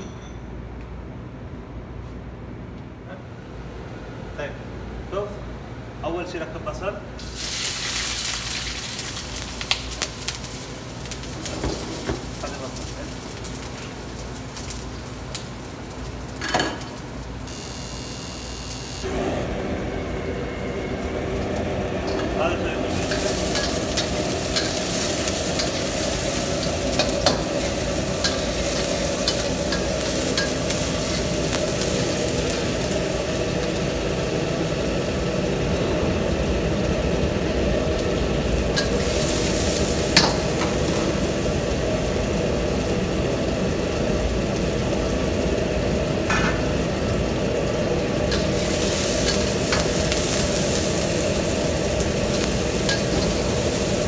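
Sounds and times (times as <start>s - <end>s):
onions sizzling in hot oil: 7.2s - 19.1s, 21.3s - 54.0s.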